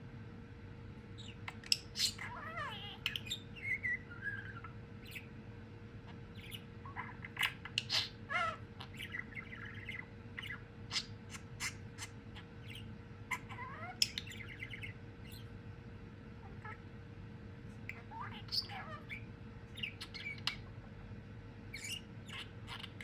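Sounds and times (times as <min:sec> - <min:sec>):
budgerigar chirping and warbling: 0:01.2 - 0:05.3, 0:06.1 - 0:15.5, 0:16.4 - 0:16.8, 0:17.9 - 0:23.0.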